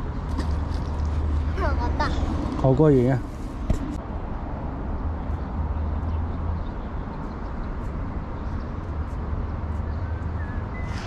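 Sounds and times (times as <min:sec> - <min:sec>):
urban background rumble: 0:00.0 - 0:11.0.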